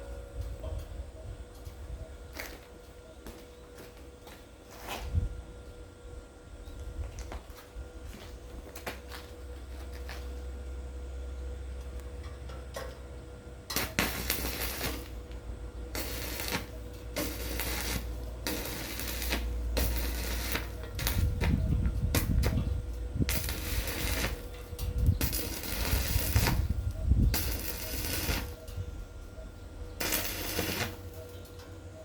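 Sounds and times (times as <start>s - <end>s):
steady low rumble: 5.0s - 31.1s.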